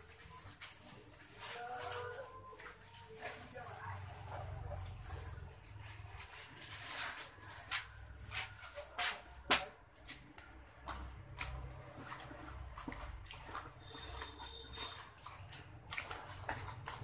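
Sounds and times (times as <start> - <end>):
hand mixing powder in plastic bowl: 0.0 - 17.0.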